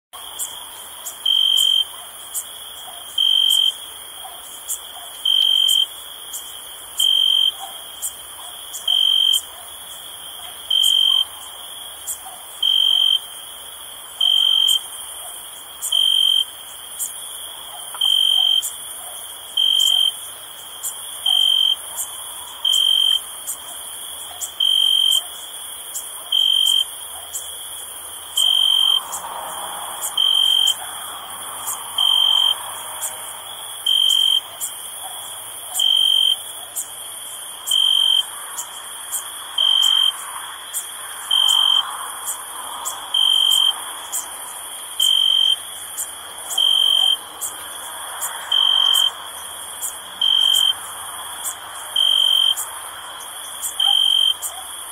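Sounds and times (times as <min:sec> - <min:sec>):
cricket trill: 0:00.2 - 0:54.9
insect chorus: 0:00.2 - 0:54.9.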